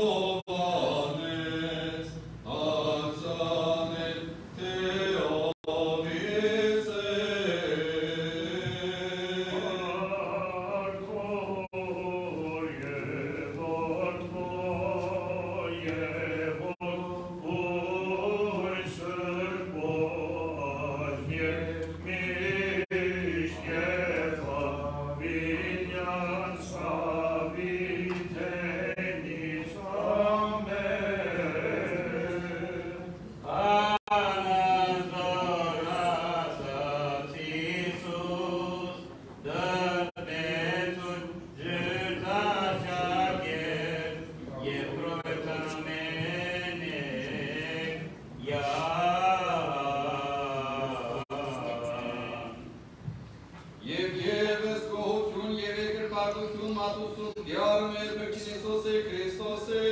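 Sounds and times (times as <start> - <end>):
clergy chanting a hymn: 0.0 - 53.2, 53.8 - 59.9.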